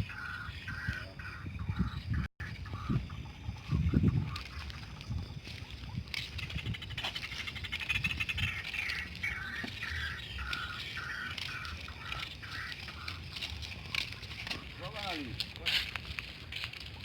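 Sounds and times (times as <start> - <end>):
animal rattling chatter: 0.0 - 17.0.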